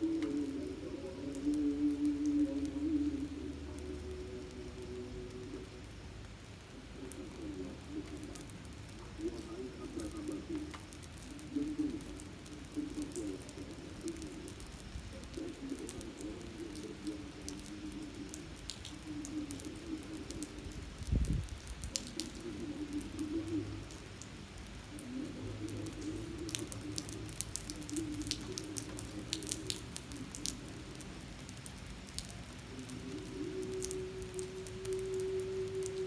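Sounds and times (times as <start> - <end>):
drops ticking: 0.0 - 36.0
rain on wet pavement: 0.0 - 36.0.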